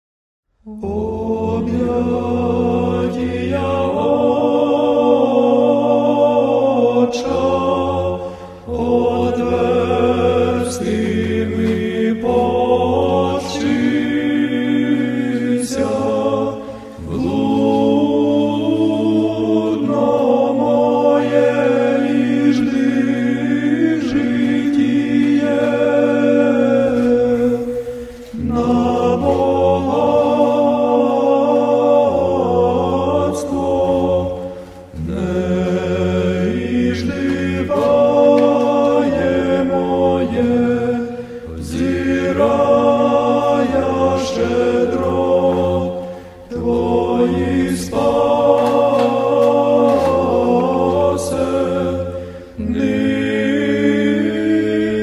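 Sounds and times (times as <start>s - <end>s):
choir chanting: 0.6s - 55.0s.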